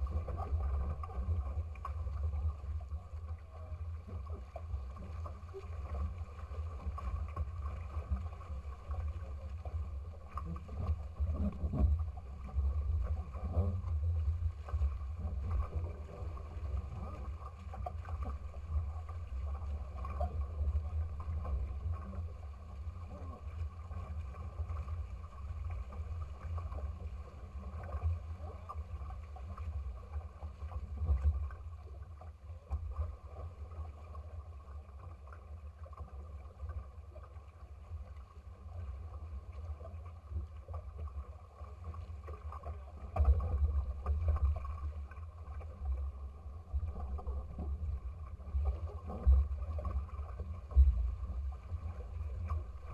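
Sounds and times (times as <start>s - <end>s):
low rumble on microphone: 0.0s - 52.9s.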